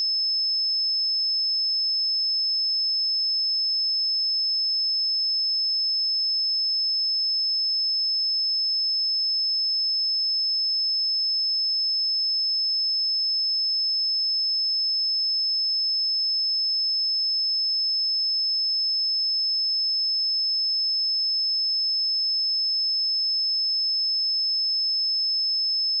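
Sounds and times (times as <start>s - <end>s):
high-pitched sine-wave test tone: 0.0s - 26.0s.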